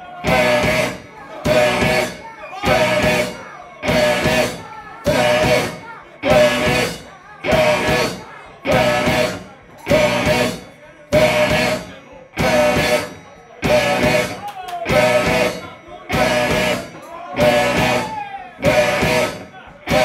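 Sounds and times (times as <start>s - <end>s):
rock band playing stop-start riff: 0.2s - 20.0s.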